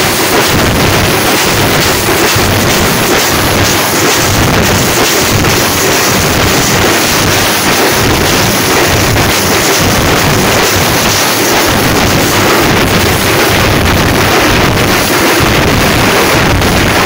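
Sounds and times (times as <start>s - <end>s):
loud drumming with sticks: 0.0s - 17.0s.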